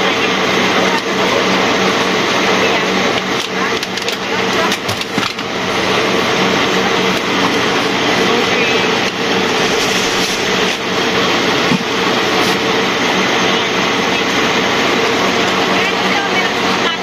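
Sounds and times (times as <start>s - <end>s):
busy shop background: 0.0s - 17.0s
loud rushing noise with hum: 0.0s - 17.0s.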